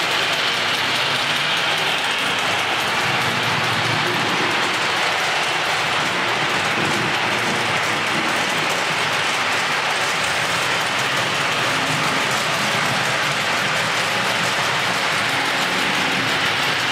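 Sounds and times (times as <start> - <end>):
model train clattering on track: 0.0 - 16.9.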